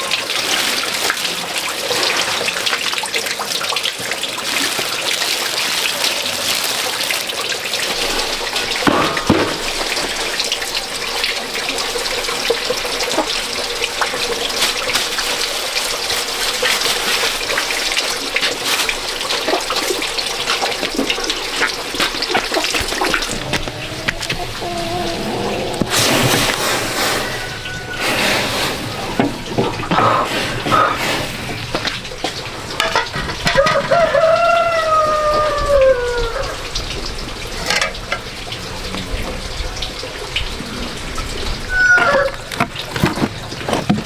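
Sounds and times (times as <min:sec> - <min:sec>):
water running from tap: 0:00.0 - 0:44.0
water splashing: 0:00.0 - 0:44.0.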